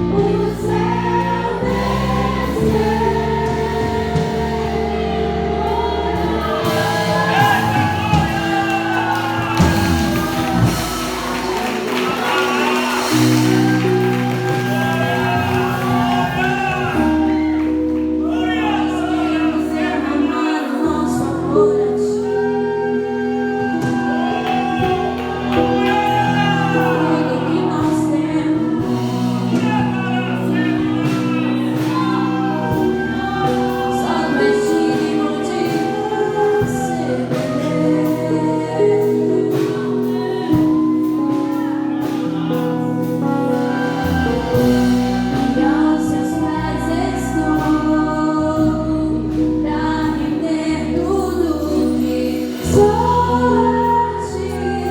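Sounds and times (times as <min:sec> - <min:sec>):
sustained instrumental chords: 0:00.0 - 0:54.9
voices singing gospel: 0:00.0 - 0:54.9.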